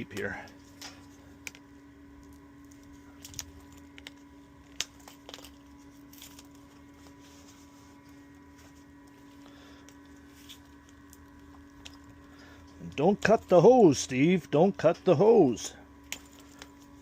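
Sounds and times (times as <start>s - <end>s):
faint steady hum: 0.0s - 17.0s
tape clicks and crinkles: 0.0s - 17.0s.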